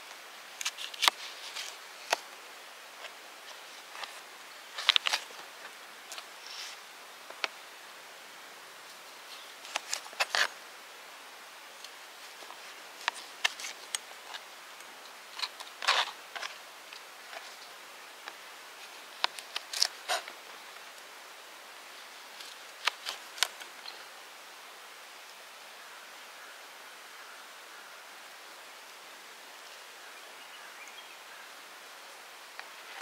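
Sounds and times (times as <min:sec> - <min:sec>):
faint steady hiss: 0:00.0 - 0:33.0.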